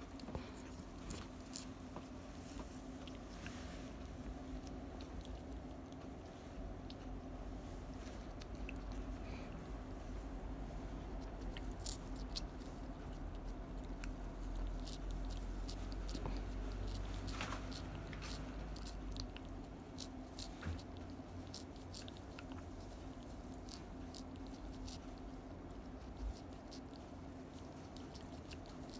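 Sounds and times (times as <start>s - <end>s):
cat licking and smacking: 2.4s - 9.3s, 11.0s - 28.9s.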